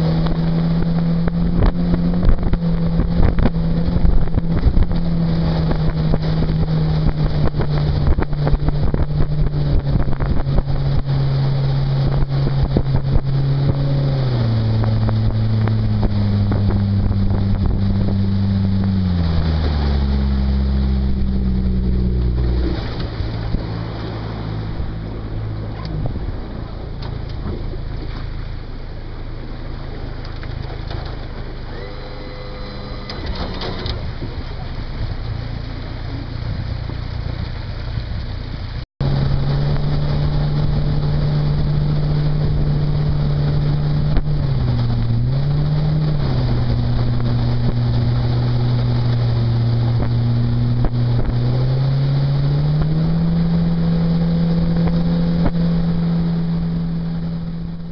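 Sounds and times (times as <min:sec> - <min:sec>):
outboard motor running: 0:00.0 - 0:57.9
rushing water: 0:00.0 - 0:57.9
wind: 0:00.0 - 0:57.9.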